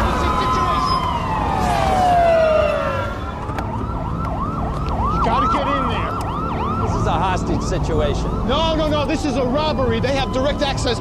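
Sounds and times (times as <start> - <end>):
police sirens: 0.0 - 11.0.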